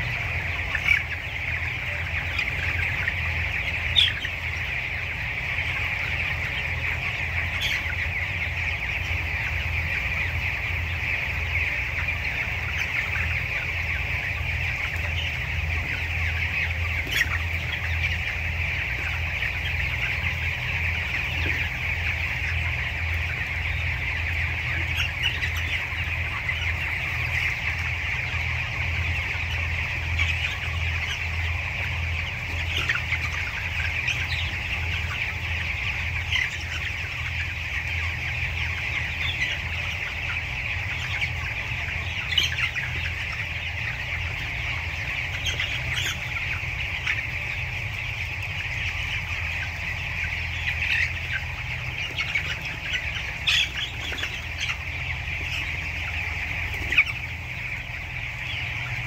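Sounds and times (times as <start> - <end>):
chickens calling in chorus: 0.0 - 59.0
sharp chicken calls: 0.0 - 59.0.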